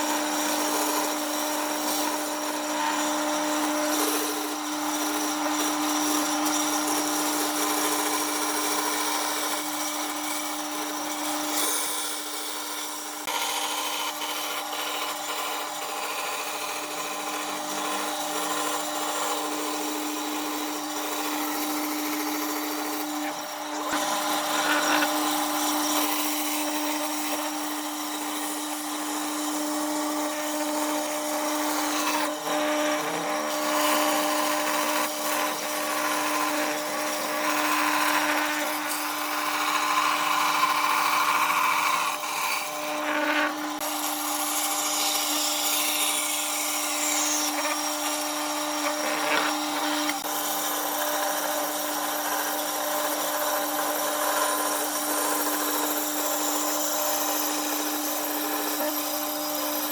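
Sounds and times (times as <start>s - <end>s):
power tool motor hum: 0.0s - 59.9s
tool cutting wood: 0.0s - 59.9s.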